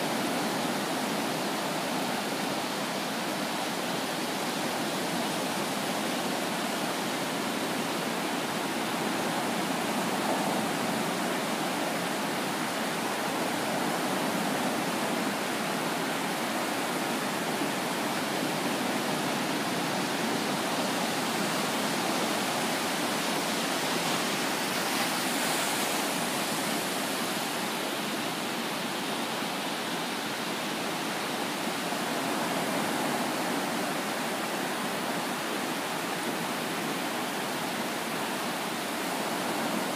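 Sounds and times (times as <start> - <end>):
small ocean waves breaking: 0.0 - 39.9.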